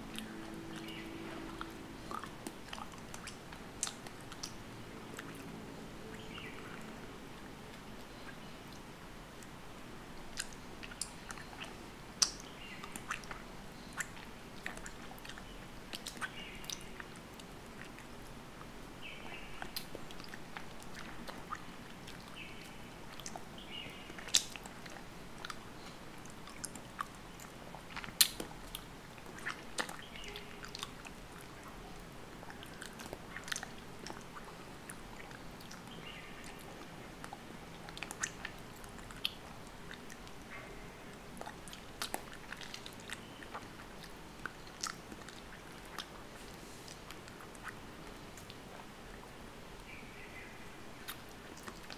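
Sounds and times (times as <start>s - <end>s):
wet sticky clicks: 0.1s - 4.6s, 10.3s - 18.4s, 19.1s - 48.9s.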